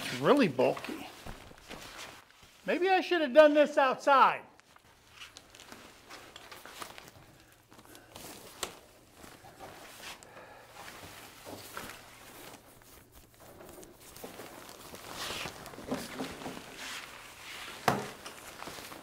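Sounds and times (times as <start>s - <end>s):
fabric rustling and crinkling: 0.0s - 3.6s, 4.6s - 19.0s.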